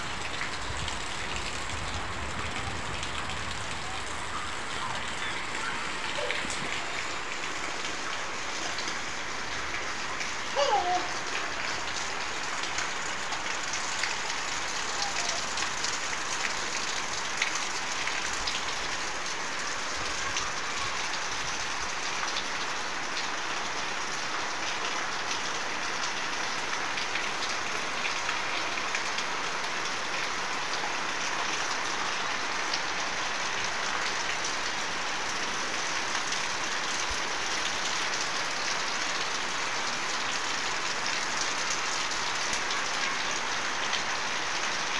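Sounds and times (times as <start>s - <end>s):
rain falling on wet ground: 0.0s - 44.9s.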